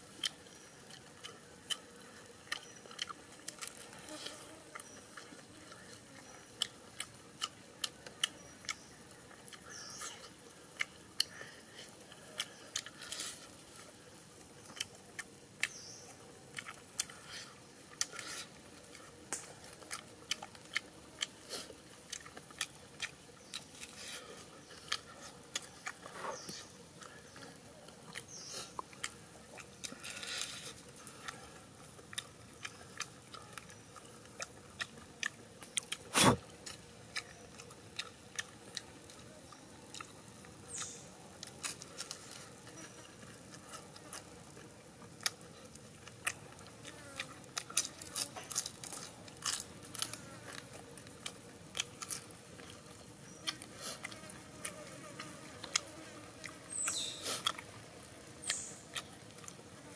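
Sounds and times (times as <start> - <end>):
person chewing and lip smacking: 0.1 - 13.6, 14.5 - 24.0, 24.6 - 42.4, 43.2 - 59.6.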